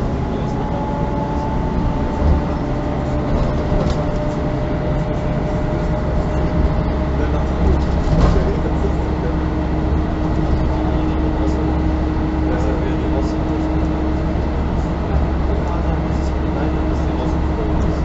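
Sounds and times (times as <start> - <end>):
bus engine low rumble: 0.0 - 18.0.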